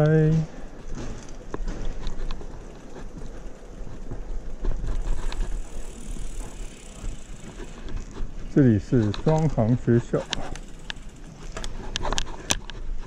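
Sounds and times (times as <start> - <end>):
bicycle tyres on concrete: 0.0 - 13.0
bike knocks and rattles: 0.0 - 13.0.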